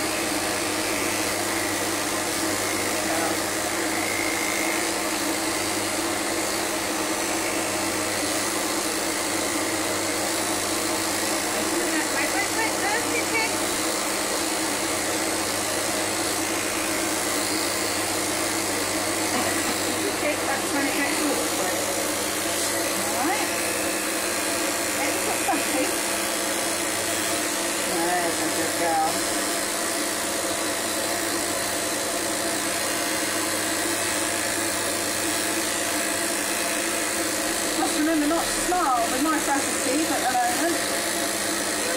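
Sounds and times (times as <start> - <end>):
electric clippers humming: 0.0 - 41.9.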